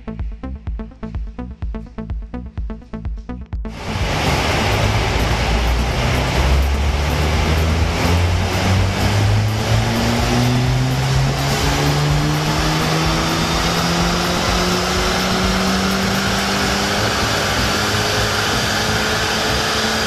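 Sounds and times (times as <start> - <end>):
car engine revving under load: 3.7 - 20.0
tyre and roller noise: 3.7 - 20.0.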